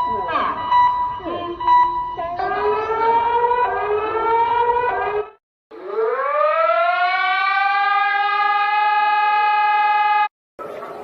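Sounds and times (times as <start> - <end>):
warning siren wailing: 0.0 - 10.3.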